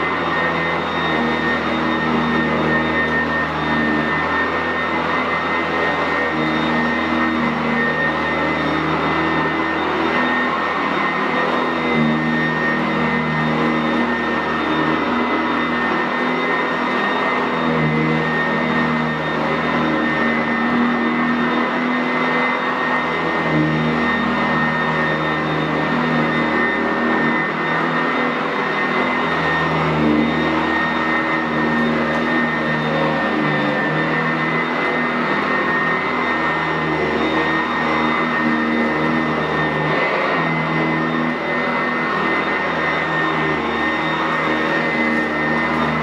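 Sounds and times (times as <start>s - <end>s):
vacuum cleaner on carpet: 0.0s - 46.0s.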